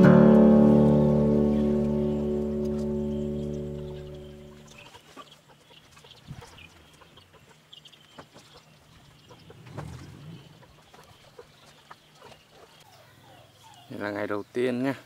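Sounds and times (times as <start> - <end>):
faint bird calls: 1.3 - 15.0.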